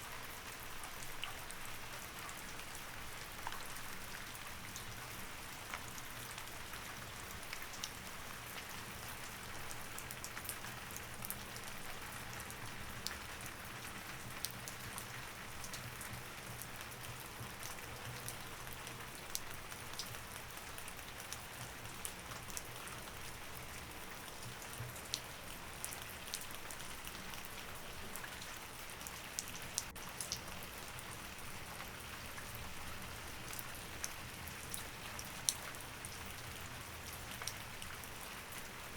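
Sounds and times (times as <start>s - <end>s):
steady rain with drop ticks: 0.0s - 38.9s.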